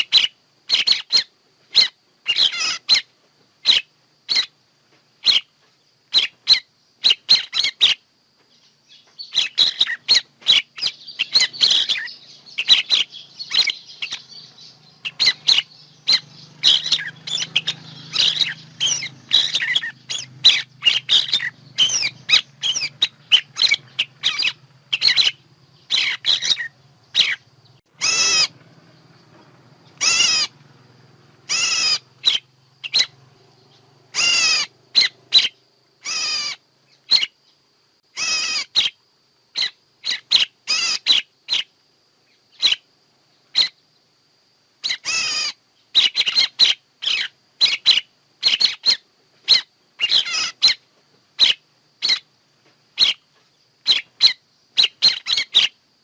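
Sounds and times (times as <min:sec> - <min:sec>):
recorded bird calls: 0:00.0 - 0:56.0.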